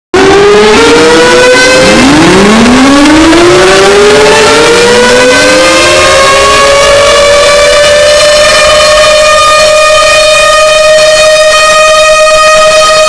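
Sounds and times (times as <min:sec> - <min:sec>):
warning sirens winding up: 0:00.1 - 0:13.0.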